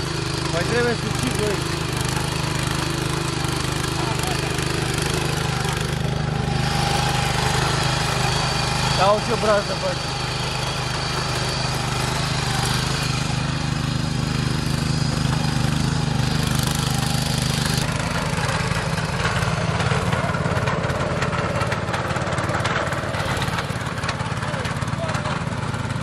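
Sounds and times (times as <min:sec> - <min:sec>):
tiller engine running: 0:00.0 - 0:26.0.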